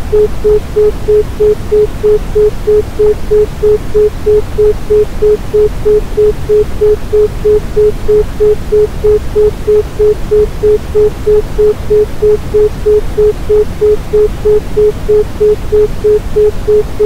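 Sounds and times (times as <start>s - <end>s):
low rumbling hiss: 0.0s - 17.0s.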